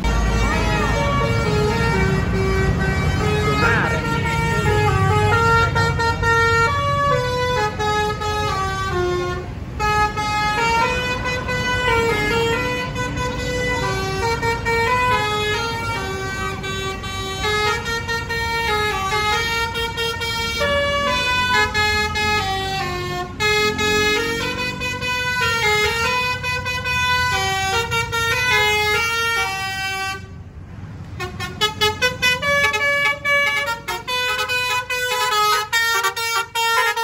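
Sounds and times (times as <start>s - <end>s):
musical bus horn melody: 0.0s - 30.4s, 31.1s - 37.0s.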